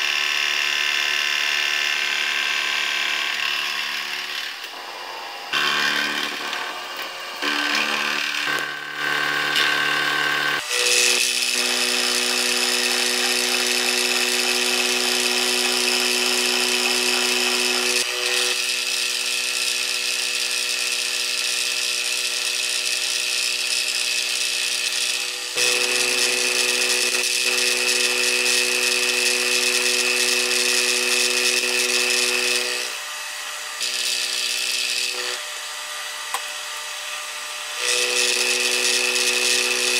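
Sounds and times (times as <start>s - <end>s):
milling machine whine: 3.2s - 39.9s.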